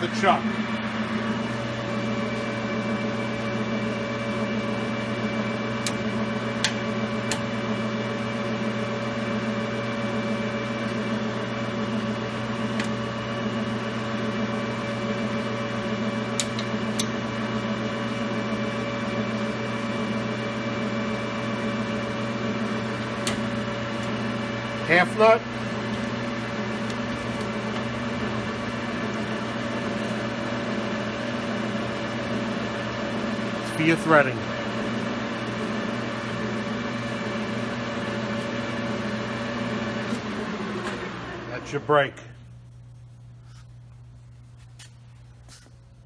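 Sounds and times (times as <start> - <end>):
lathe geared hum: 0.0 - 46.0.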